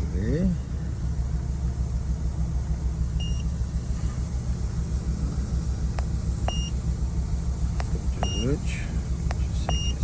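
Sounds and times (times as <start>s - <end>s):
truck engine idling roughly: 0.0s - 10.0s.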